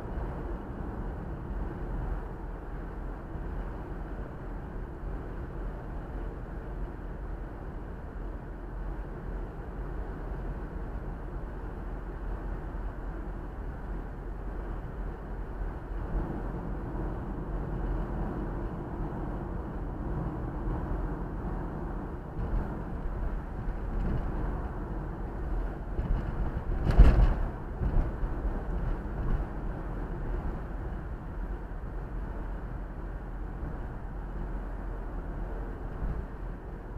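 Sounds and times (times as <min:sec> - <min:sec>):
car road noise: 0:00.0 - 0:36.9.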